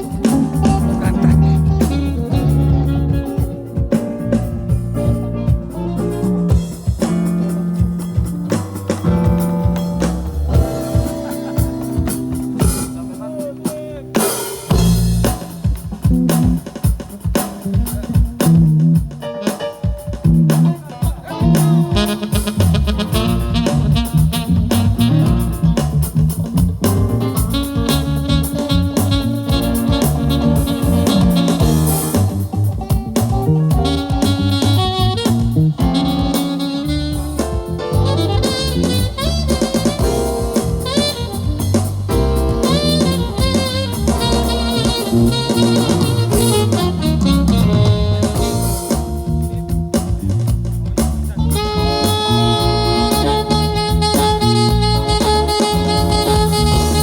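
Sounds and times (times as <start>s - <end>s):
loud music through sound system: 0.0s - 25.7s, 27.0s - 50.2s.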